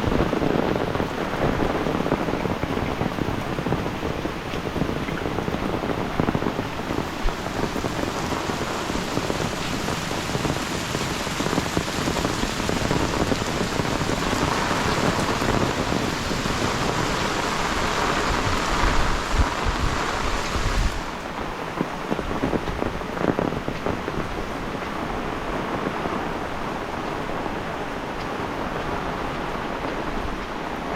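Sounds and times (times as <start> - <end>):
heavy rain falling: 0.0 - 30.9
low wind rumble: 0.0 - 30.9.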